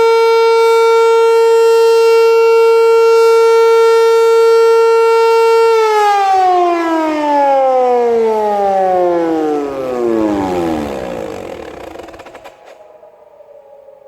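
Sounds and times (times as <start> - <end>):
siren winding down: 0.0 - 14.0.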